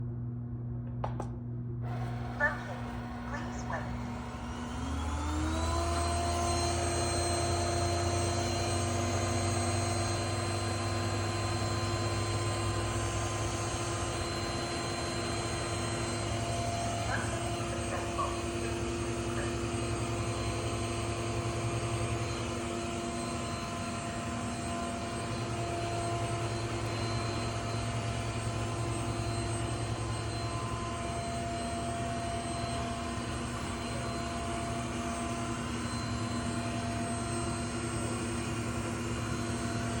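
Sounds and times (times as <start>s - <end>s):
robot vacuum motor and fan drone: 1.9s - 40.0s.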